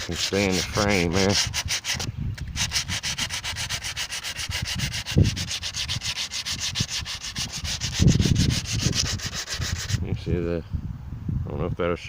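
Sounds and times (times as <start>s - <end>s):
sandpaper rubbing on metal: 0.0s - 10.0s.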